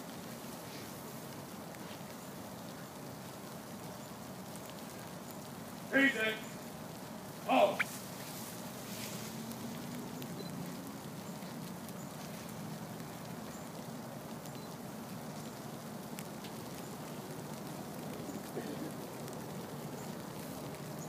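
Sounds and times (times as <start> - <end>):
rain on stone paving: 0.0 - 21.0.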